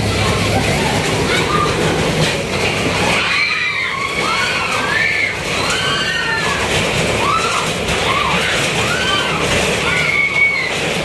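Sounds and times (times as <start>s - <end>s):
ride train rumbling: 0.0s - 11.0s
shrill wails: 0.2s - 2.0s, 2.9s - 11.0s.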